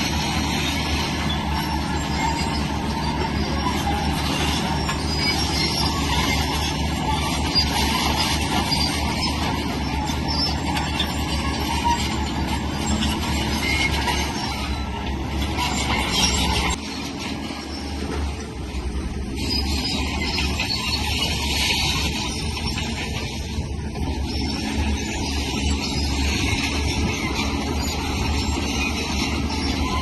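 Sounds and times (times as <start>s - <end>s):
bulldozer diesel engine running: 0.0s - 30.0s
steel tracks rattling and squeaking: 0.0s - 30.0s.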